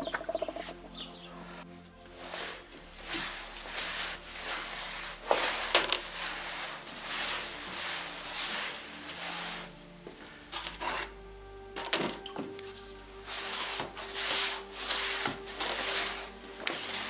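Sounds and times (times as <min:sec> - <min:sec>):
mop swishing on wooden floor: 0:00.5 - 0:17.0.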